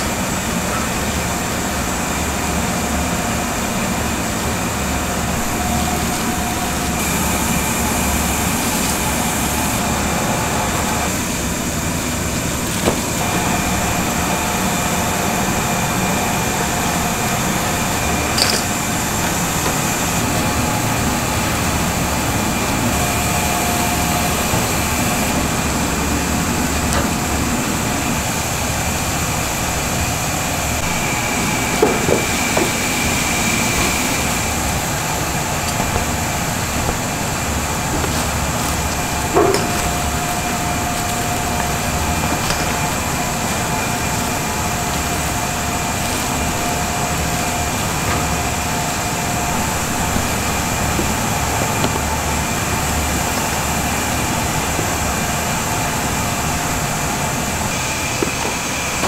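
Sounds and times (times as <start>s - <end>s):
kitchen machinery hum: 0.0s - 59.0s.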